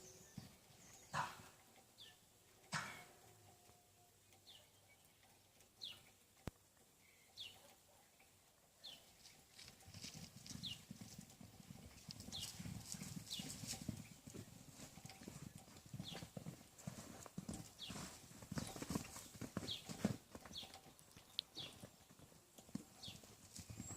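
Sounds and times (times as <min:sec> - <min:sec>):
horse hoofbeats: 0:00.0 - 0:23.9.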